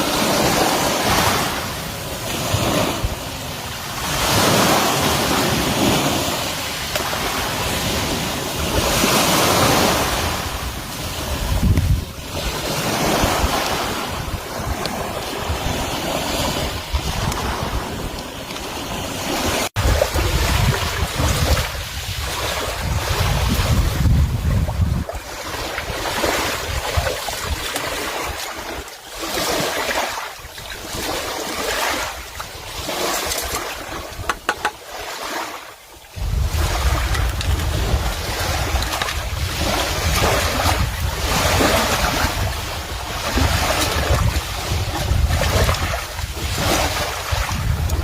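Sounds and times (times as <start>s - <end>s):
wind buffeting microphone: 0.0s - 28.7s, 36.1s - 48.0s
rushing surf or wind: 0.0s - 48.0s.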